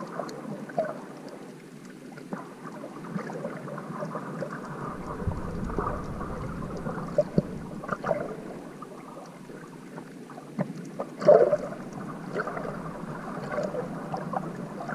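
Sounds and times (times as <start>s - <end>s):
muffled underwater water noise: 0.0s - 14.9s.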